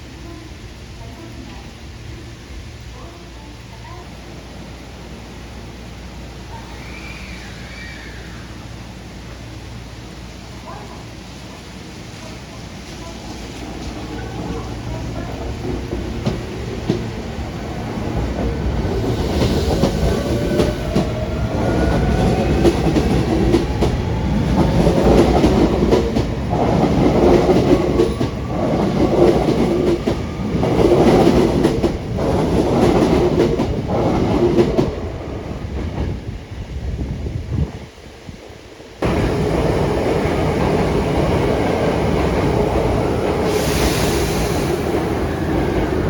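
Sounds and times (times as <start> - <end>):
subway train motor whine: 0.0 - 37.7, 38.8 - 46.0.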